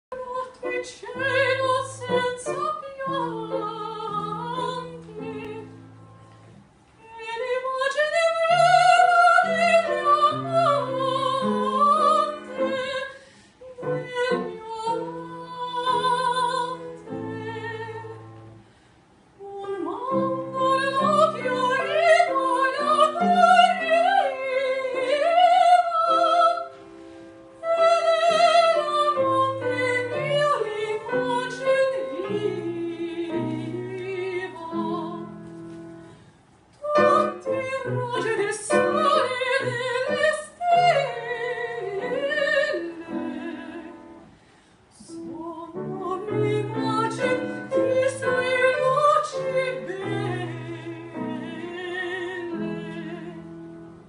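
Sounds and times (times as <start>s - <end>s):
soprano singing with vibrato: 0.1s - 6.0s, 7.0s - 18.5s, 19.4s - 26.9s, 27.5s - 35.6s, 36.8s - 44.3s, 44.9s - 54.0s
grand piano accompaniment: 0.1s - 18.8s, 19.8s - 54.0s.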